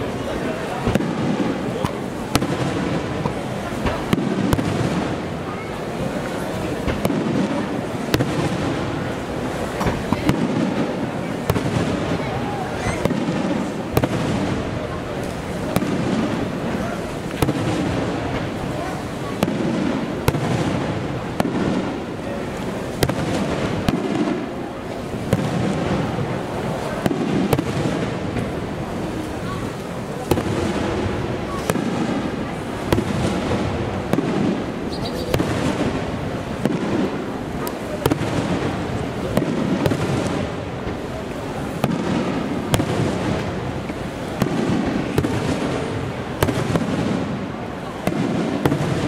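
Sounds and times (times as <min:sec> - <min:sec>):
fireworks bangs: 0:00.0 - 0:49.0
steady background noise: 0:00.0 - 0:49.0.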